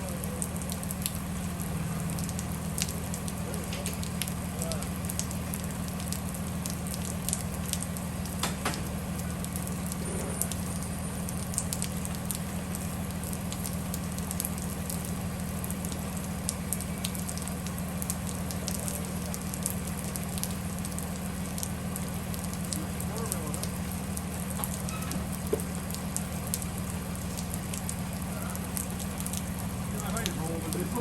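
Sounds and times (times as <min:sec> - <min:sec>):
bus engine drone: 0:00.0 - 0:31.0
rain pattering: 0:00.0 - 0:31.0
small crackling ticks: 0:00.2 - 0:10.6, 0:11.2 - 0:30.9.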